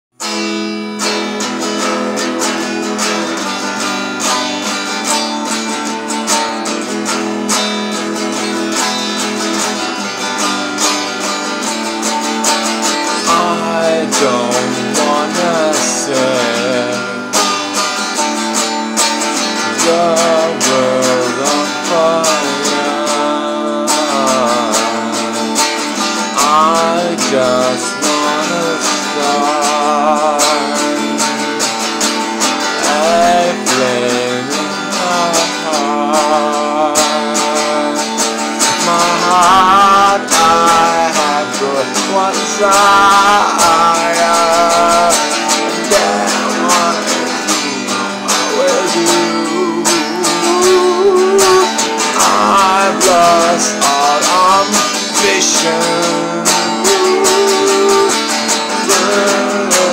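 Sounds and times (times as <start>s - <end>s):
acoustic guitar strumming: 0.1s - 59.9s
man singing with vibrato: 0.2s - 59.9s.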